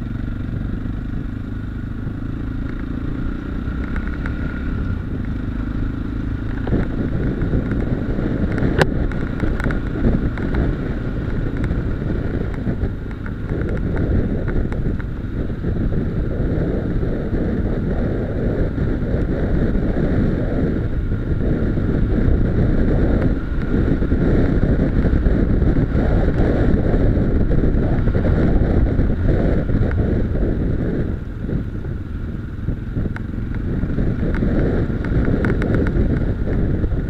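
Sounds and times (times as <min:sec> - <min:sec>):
motorcycle engine running: 0:00.0 - 0:37.0
wind buffeting microphone: 0:00.0 - 0:37.0.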